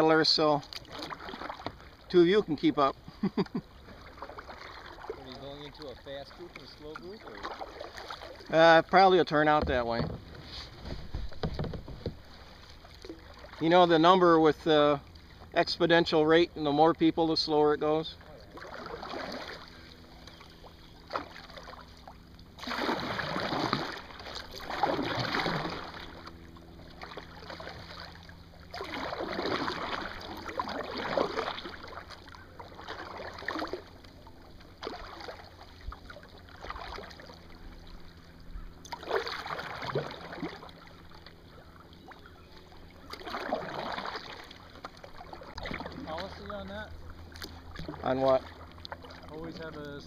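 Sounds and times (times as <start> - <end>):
paddle splashing through water: 0.0 - 50.0.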